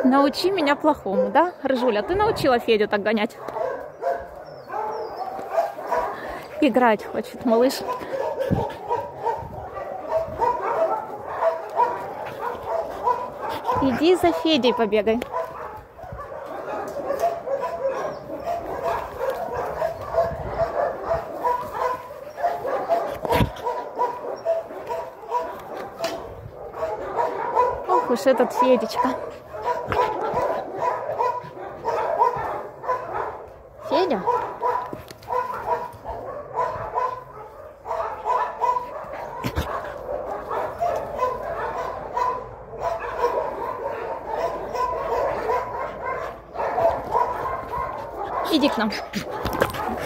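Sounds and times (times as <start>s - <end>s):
dog play barking: 3.3s - 50.0s.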